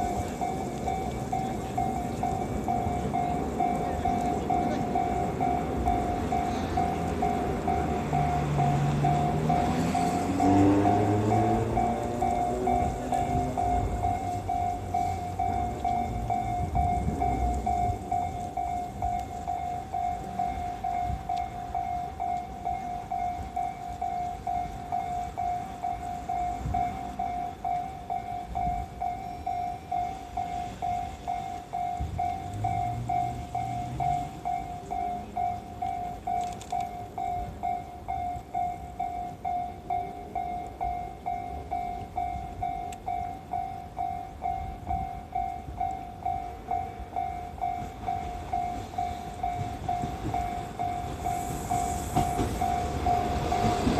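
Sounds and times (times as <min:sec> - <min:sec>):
level-crossing warning bell: 0:00.0 - 0:53.9.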